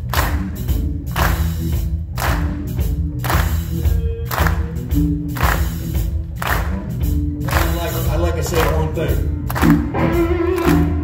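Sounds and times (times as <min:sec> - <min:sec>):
drum and cymbal hits: 0:00.0 - 0:11.0
electric blues band playing: 0:00.0 - 0:11.0.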